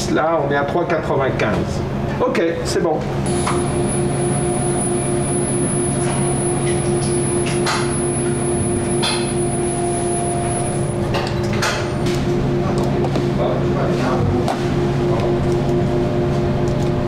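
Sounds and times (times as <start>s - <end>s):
x-ray machine humming: 2.8s - 17.0s
high whine: 3.1s - 16.8s.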